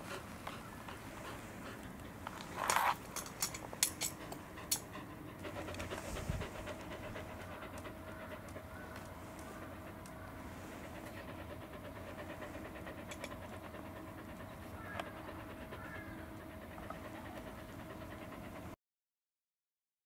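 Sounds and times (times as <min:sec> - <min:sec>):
dog panting: 0:00.0 - 0:18.8.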